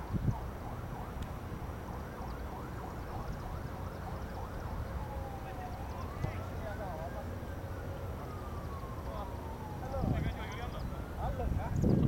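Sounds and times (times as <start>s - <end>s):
distant emergency siren: 0.0s - 11.9s.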